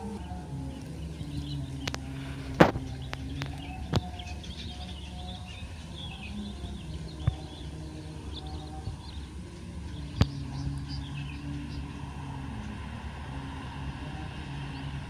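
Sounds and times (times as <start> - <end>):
birds chirping: 0.0 - 15.0
low outdoor hum: 0.0 - 15.0.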